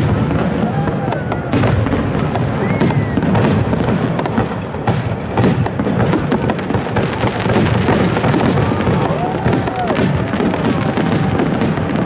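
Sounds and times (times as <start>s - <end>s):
firework bangs and crackle: 0.0s - 12.0s.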